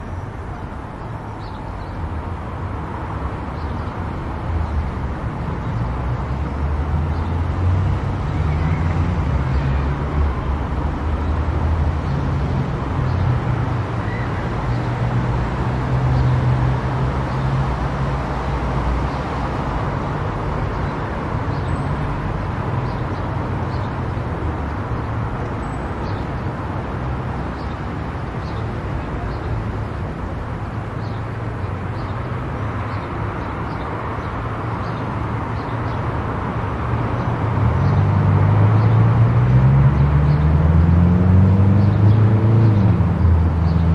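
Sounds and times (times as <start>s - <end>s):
car road noise at speed: 0.0s - 43.9s.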